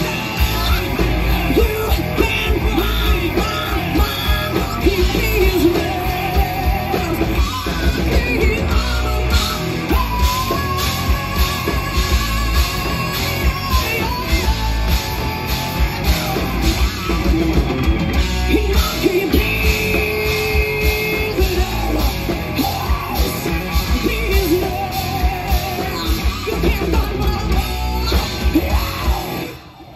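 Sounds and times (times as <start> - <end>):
bass guitar: 0.0 - 29.9
drums keeping a steady beat: 0.0 - 29.9
electric guitar: 0.0 - 29.9.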